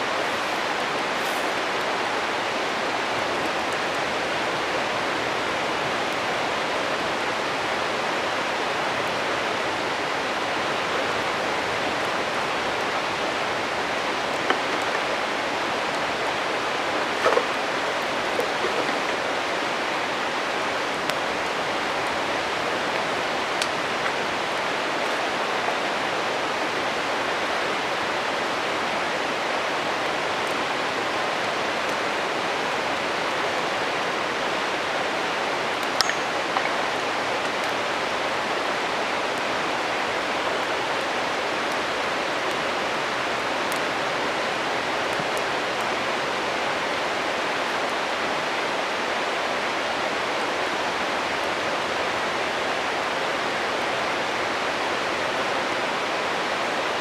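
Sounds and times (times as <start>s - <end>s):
campfire crackling: 0.0s - 49.1s
flowing stream: 0.0s - 57.0s.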